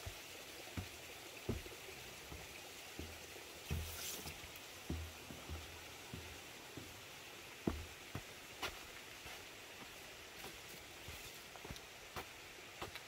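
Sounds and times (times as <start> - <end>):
faint steady hiss: 0.0 - 13.0
footsteps on boardwalk and dirt: 0.0 - 13.0.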